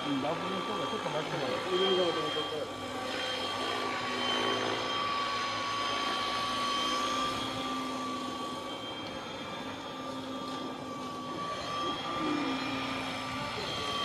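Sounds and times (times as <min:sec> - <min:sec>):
helicopter rotor whine: 0:00.0 - 0:14.0.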